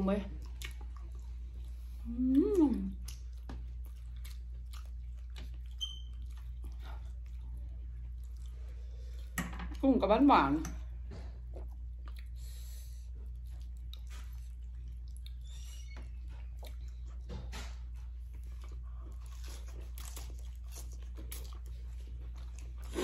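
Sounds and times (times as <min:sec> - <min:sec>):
chewing and crunching food: 0:00.0 - 0:09.9, 0:10.8 - 0:23.0
steady low hum: 0:00.0 - 0:23.0.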